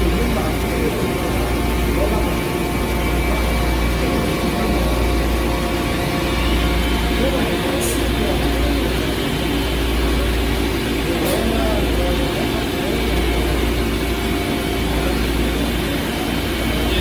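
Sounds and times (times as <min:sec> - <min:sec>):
machine hum with constant tones: 0:00.0 - 0:17.0
noisy wash: 0:00.0 - 0:17.0.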